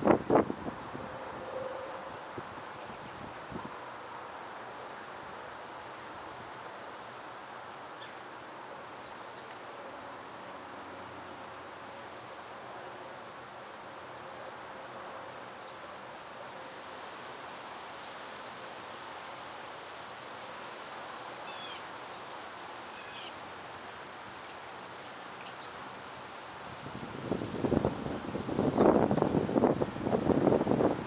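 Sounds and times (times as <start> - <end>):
crickets trilling: 0.0 - 31.0
outdoor hiss: 0.0 - 31.0.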